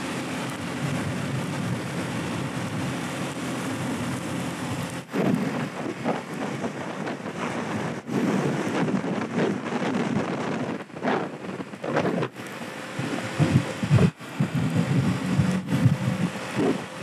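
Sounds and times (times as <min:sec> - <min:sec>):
small motorbike engine drone: 0:00.0 - 0:17.0
wind rushing over microphone: 0:00.0 - 0:17.0.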